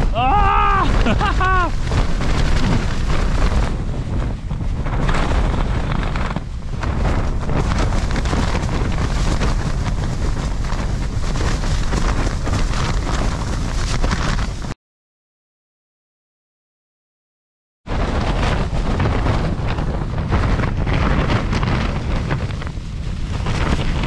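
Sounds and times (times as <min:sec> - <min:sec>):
tent fabric flapping: 0:00.0 - 0:14.8, 0:17.9 - 0:24.0
wind buffeting a tent: 0:00.0 - 0:14.8, 0:17.9 - 0:24.0
wind rumble on microphone: 0:00.0 - 0:14.8, 0:17.9 - 0:24.0.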